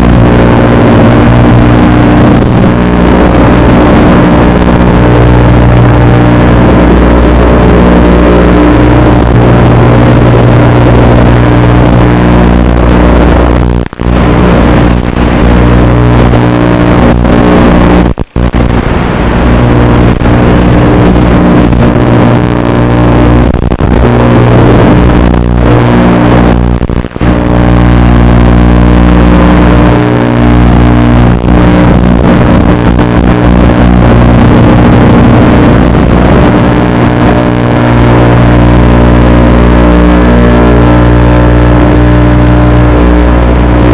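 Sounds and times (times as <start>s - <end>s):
distorted quadcopter buzz: 0.0s - 43.9s.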